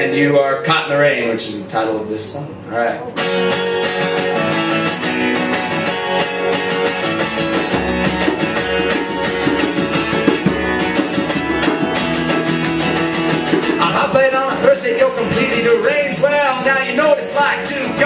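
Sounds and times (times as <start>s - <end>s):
strummed guitar: 3.1s - 18.0s.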